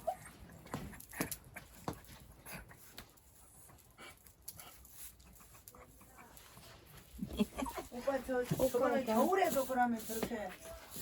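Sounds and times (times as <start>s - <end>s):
rustles: 0.0s - 11.0s.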